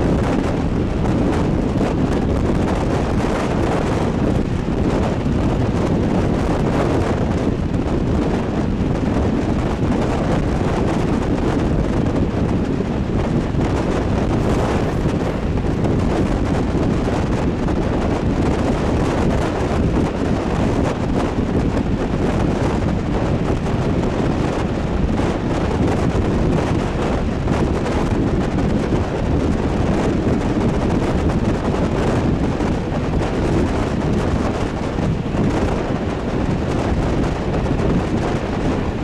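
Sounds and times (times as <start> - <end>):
train rumbling at speed: 0.0 - 39.0
wind buffeting microphone: 0.0 - 39.0.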